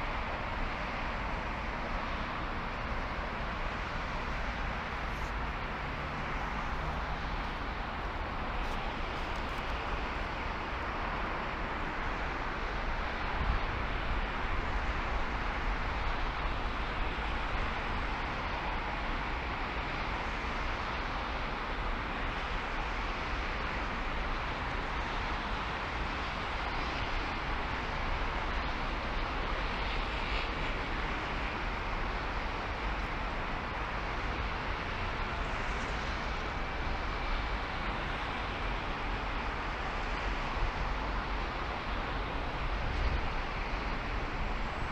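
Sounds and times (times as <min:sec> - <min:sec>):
car road and wind noise: 0:00.0 - 0:44.9.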